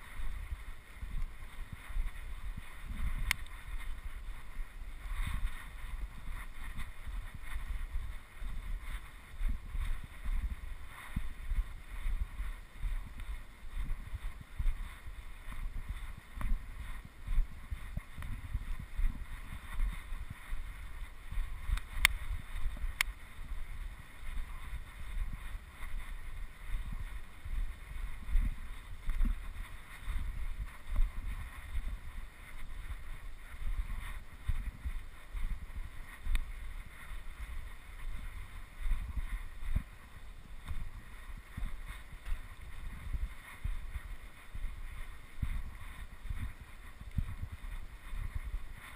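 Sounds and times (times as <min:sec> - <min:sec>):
microphone rumble: 0:00.0 - 0:48.9.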